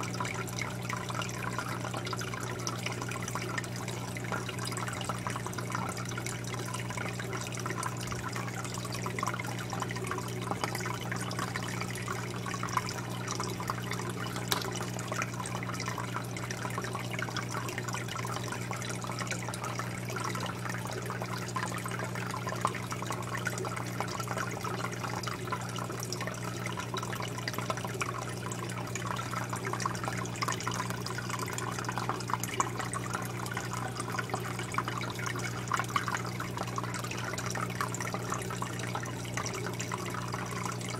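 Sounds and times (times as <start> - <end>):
aquarium bubbles fizzing and gurgling: 0.0 - 40.9.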